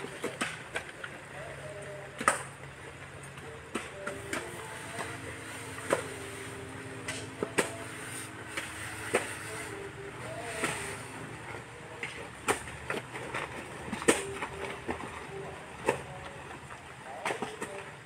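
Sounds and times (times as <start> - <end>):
faint voices: 0.0 - 18.0.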